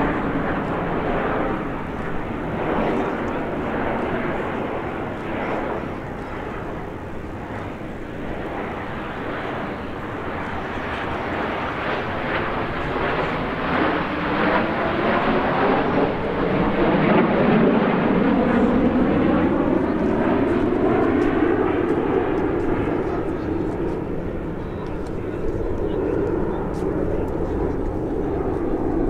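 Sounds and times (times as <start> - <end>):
jets flying past: 0.0 - 29.0.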